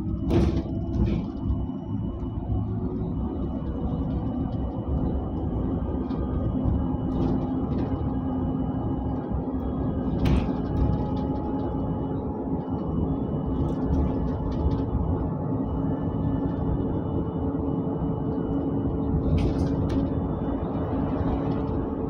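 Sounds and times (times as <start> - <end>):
bus engine and road rumble: 0.0 - 22.0
constant hum: 0.0 - 22.0.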